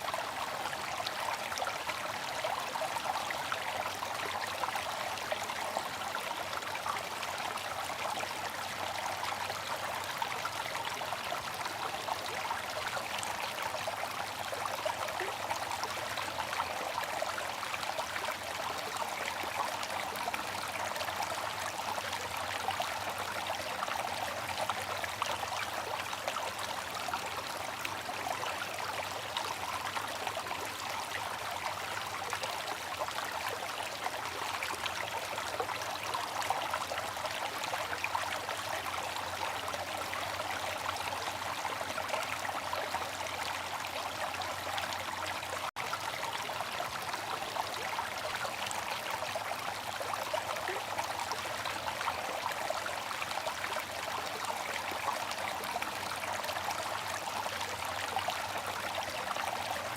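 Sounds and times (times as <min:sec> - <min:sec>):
fountain water trickling: 0:00.0 - 0:59.9.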